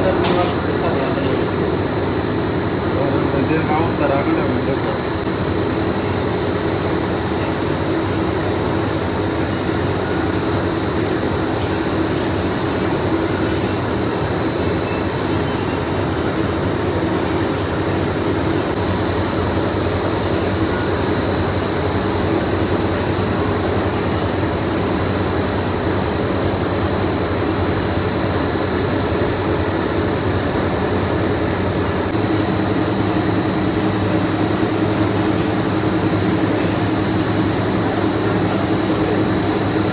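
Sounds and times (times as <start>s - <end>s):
factory machinery din: 0.0s - 39.9s
high-pitched machine whine: 0.0s - 39.9s.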